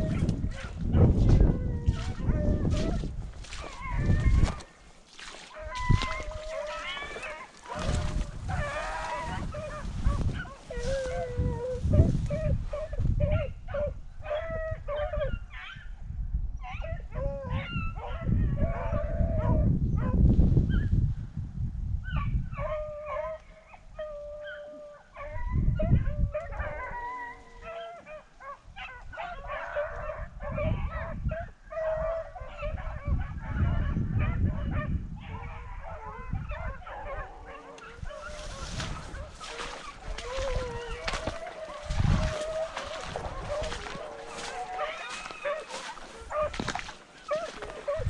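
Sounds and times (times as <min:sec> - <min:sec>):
dogs baying and yipping: 0:00.0 - 0:15.9, 0:16.6 - 0:20.8, 0:22.1 - 0:48.0.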